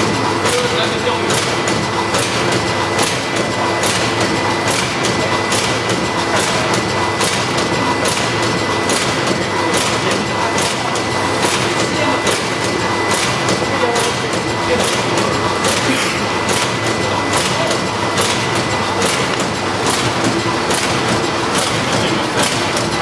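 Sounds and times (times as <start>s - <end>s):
packing machine mechanical din: 0.0s - 23.0s.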